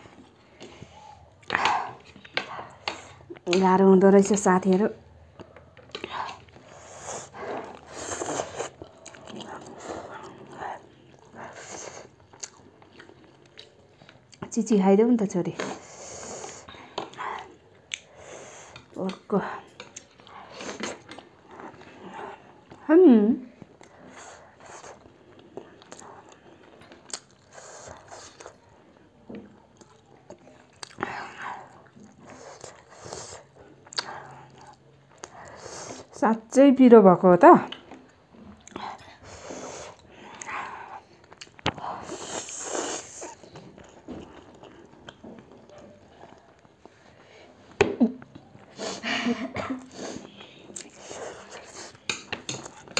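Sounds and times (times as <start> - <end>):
people chewing noodles: 0.0 - 14.4, 15.5 - 36.2, 37.7 - 52.9.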